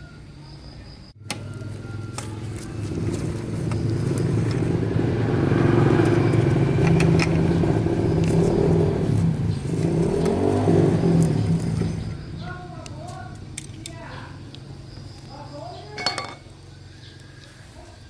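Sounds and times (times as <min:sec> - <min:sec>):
engine running: 0:01.2 - 0:18.0.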